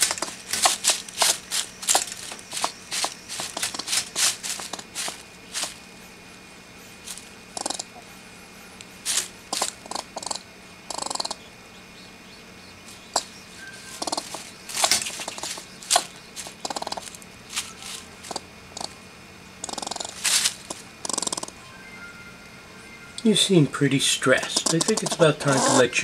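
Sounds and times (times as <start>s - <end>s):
squirrel chattering: 0.0s - 5.7s, 6.9s - 8.0s, 8.6s - 19.0s, 19.6s - 21.6s, 23.2s - 26.0s.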